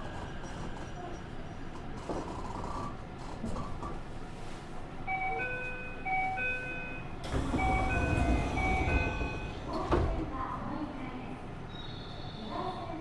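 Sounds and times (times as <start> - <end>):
train car low rumble: 0.0 - 13.0.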